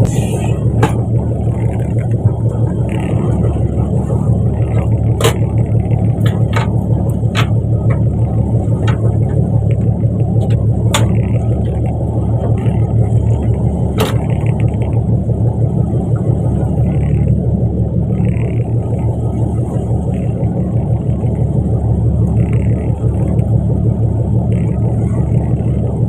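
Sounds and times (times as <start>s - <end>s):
boat engine rumbling: 0.0s - 26.0s.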